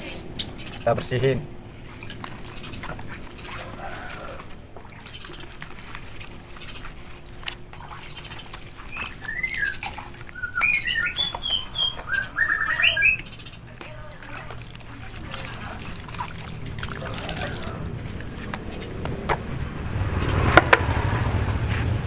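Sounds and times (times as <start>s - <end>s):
small bird chirping: 0.0s - 20.6s.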